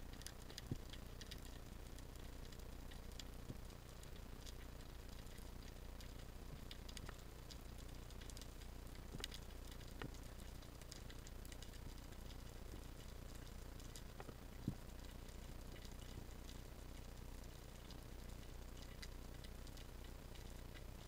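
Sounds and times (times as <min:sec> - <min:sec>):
low underwater hum: 0:00.0 - 0:21.0
sharp clicks and crackles: 0:00.0 - 0:21.0.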